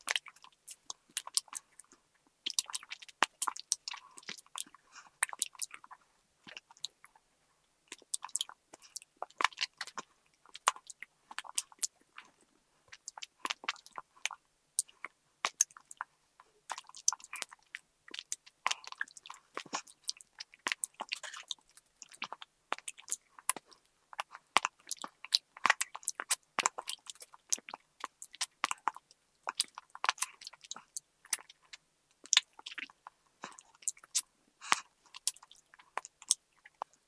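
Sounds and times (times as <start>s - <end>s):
chewing and crunching candy: 0.0s - 37.0s.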